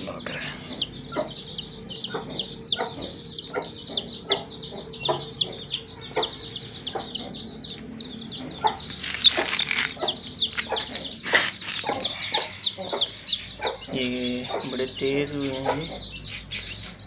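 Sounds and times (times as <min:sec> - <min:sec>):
chicks peeping: 0:00.0 - 0:17.0
hen clucking: 0:00.2 - 0:17.0.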